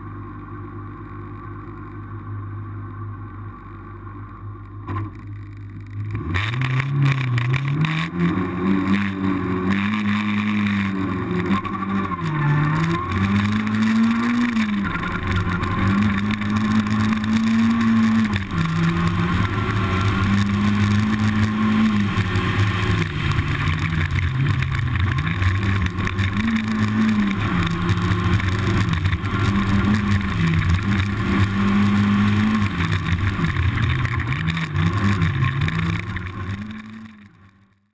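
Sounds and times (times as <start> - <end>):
racing engine revving: 5.9 - 37.5.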